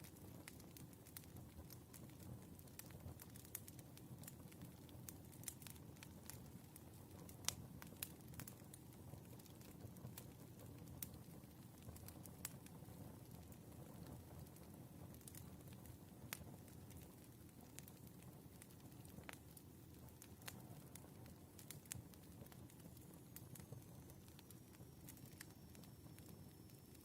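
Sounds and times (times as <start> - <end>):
firewood crackling and popping: 0.0 - 27.0
low rumble of flame: 0.0 - 27.0.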